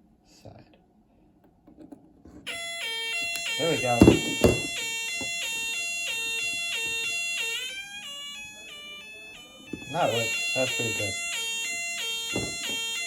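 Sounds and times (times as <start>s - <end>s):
electronic two-tone siren wail: 2.5s - 13.0s.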